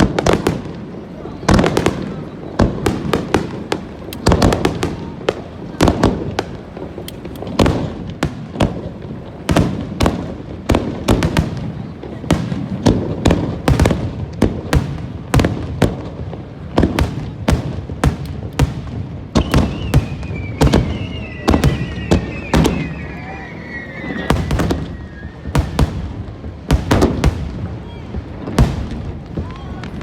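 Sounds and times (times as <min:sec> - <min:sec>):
fireworks bursting with sharp bangs: 0:00.0 - 0:30.0
fireworks crackling: 0:00.0 - 0:30.0.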